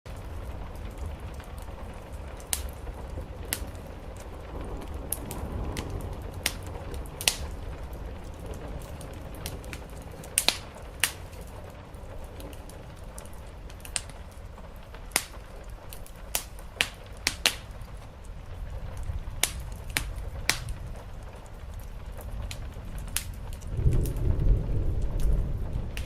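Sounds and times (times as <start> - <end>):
wood fire crackling and popping: 0.1 - 26.0.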